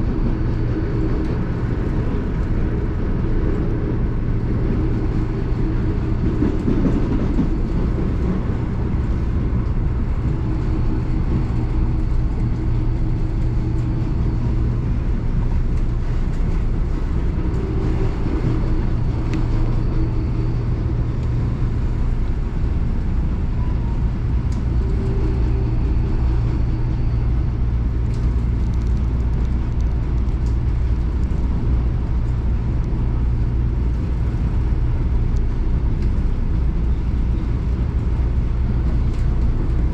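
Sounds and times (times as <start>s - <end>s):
electric train rumbling past: 0.0s - 39.9s.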